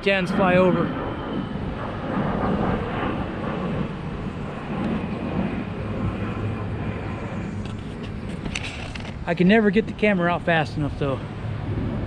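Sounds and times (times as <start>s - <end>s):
jet flying over: 0.0s - 12.0s.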